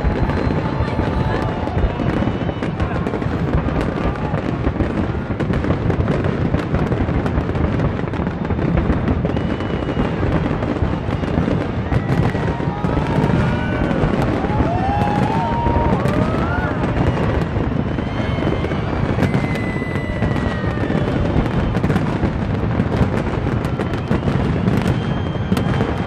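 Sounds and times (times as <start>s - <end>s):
fireworks booming and crackling: 0.0s - 26.0s.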